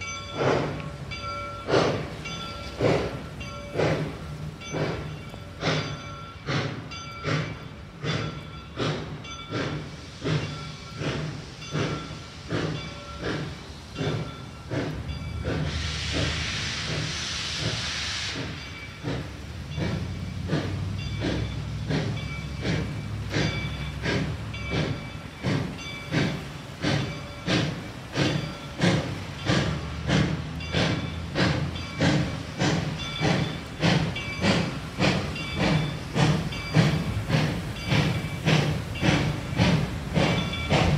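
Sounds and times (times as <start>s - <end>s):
steam hissing: 0.0s - 40.9s
steam locomotive exhaust chuffs: 0.0s - 40.9s.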